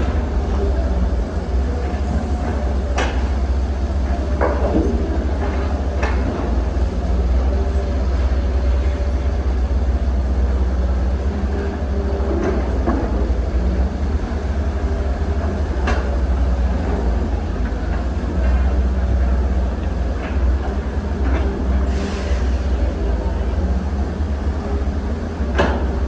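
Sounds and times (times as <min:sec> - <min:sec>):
diesel engine rumbling under load: 0:00.0 - 0:26.0.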